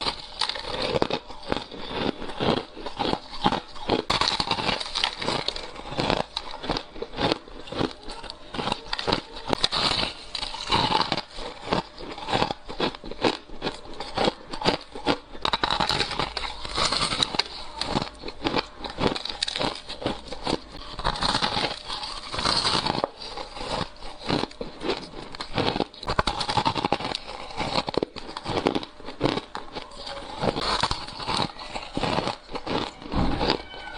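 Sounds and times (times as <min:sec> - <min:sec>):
ice crunching as it is chewed: 0:00.0 - 0:33.9.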